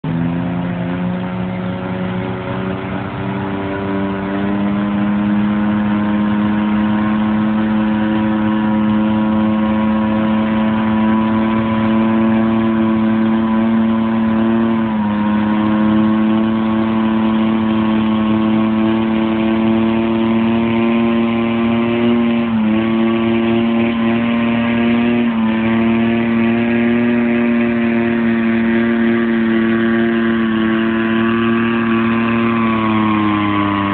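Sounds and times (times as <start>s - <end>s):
diesel tractor engine revving: 0.0s - 33.9s.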